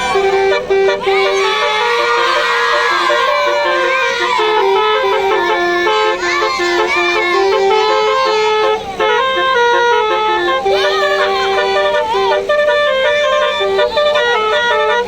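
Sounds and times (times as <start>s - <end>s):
air horn playing a tune: 0.0s - 15.0s.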